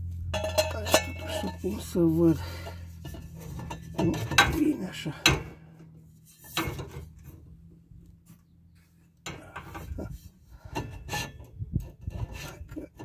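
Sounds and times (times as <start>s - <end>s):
metal pipes scraping and knocking: 0.0s - 7.8s, 9.1s - 13.0s.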